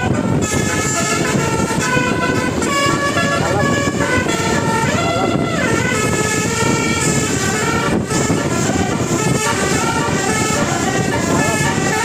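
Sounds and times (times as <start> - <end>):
bus horn playing melody: 0.0 - 12.0.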